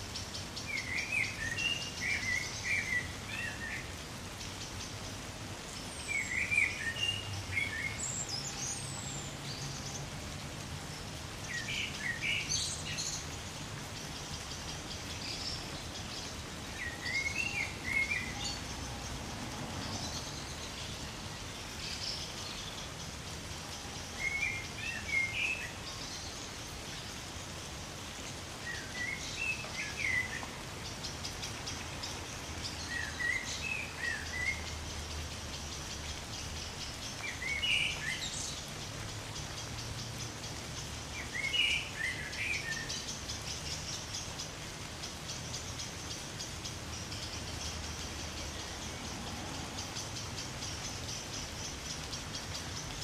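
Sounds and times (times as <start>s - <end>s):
light rain falling through trees: 0.0s - 53.0s
songbird chirping: 0.0s - 53.0s.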